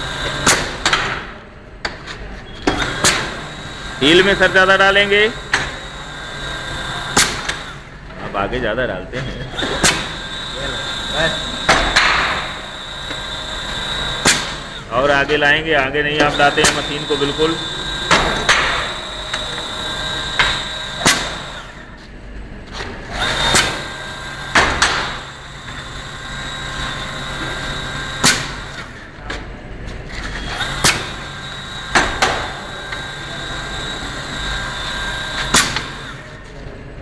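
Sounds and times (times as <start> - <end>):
machine hum and whine: 0.0 - 37.0.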